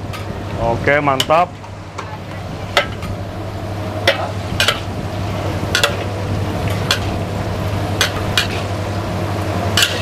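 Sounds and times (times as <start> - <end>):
frying sizzle: 0.0 - 10.0
steady low hum: 0.0 - 10.0.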